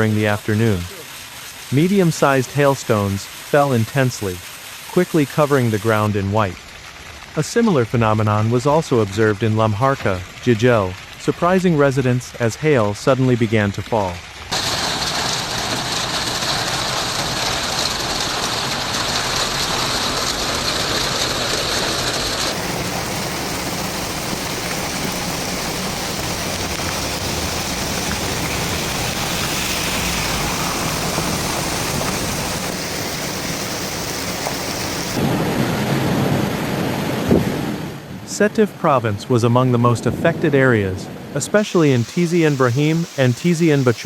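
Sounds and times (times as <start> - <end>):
heavy rain pouring: 0.0 - 38.3, 41.6 - 44.0.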